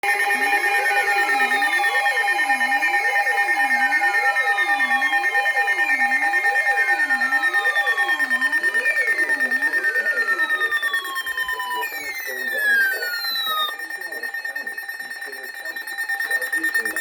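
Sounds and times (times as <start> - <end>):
steady high alarm tones: 0.0 - 17.0.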